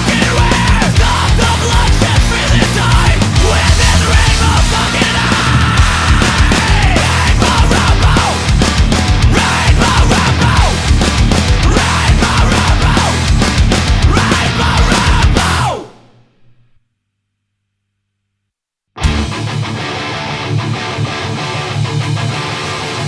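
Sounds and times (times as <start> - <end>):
heavy band music with drums: 0.0 - 16.1, 19.0 - 23.0.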